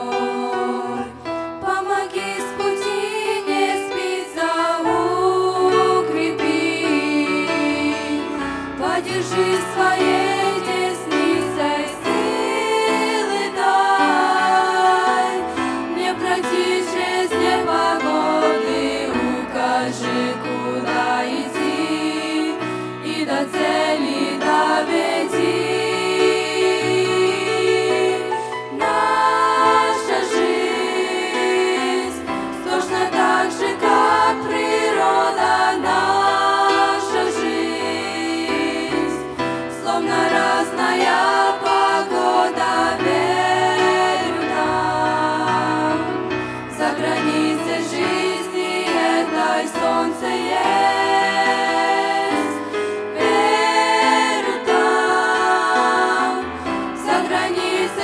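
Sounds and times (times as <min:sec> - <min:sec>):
girls singing into microphones: 0:00.0 - 0:58.0.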